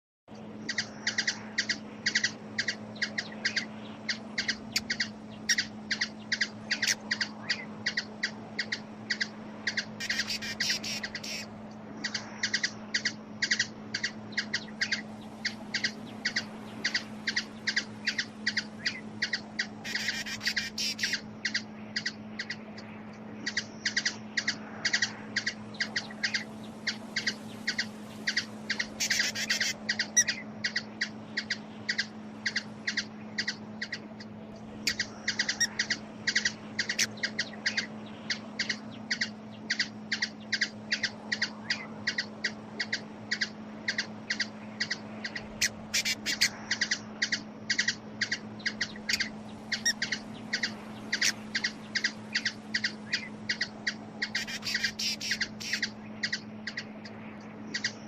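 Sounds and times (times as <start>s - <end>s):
bird chip calls: 0.3s - 58.0s
steady low hum: 0.3s - 58.0s
bird chattering: 0.6s - 58.0s.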